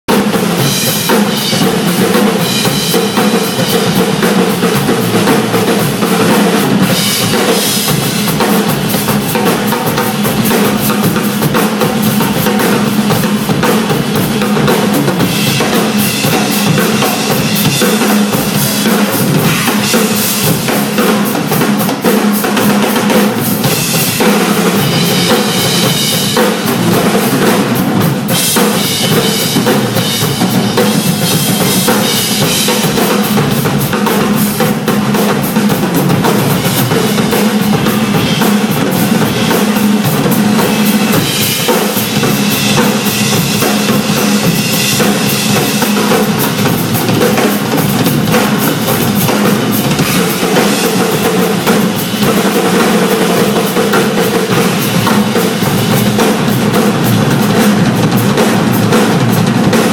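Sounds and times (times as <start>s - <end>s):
drum kit played loudly: 0.0s - 59.9s.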